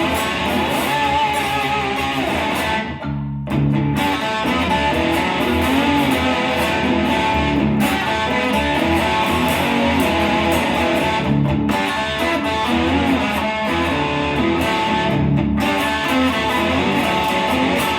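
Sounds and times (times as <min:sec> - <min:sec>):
slide lap steel guitar: 0:00.0 - 0:17.9.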